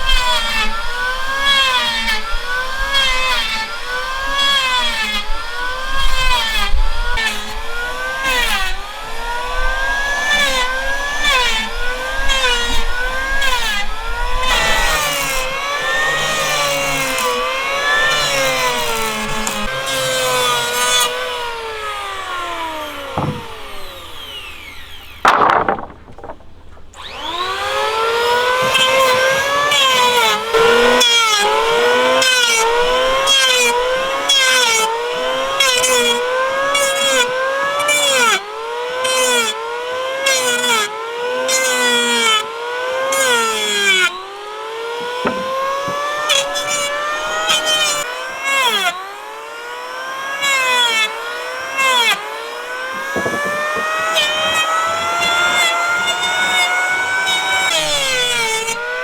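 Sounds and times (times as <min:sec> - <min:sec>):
power tool motor on wood: 0:00.0 - 0:59.0.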